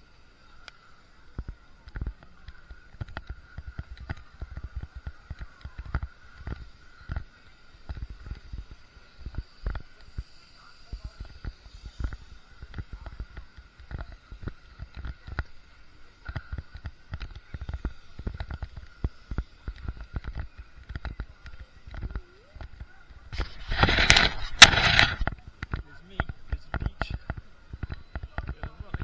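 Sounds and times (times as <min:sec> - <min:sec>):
faint steady high tone: 0:00.0 - 0:23.4.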